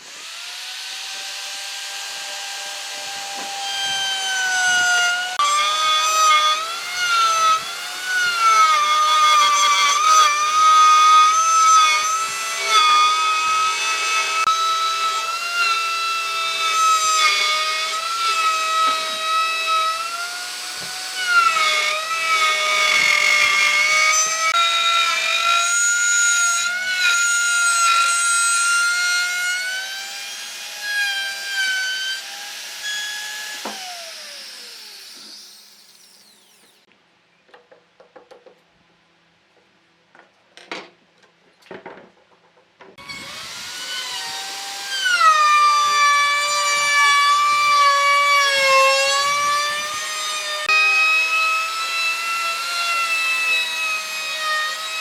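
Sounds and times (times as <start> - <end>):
power tool cutting wood: 0.0 - 36.9, 43.0 - 55.0.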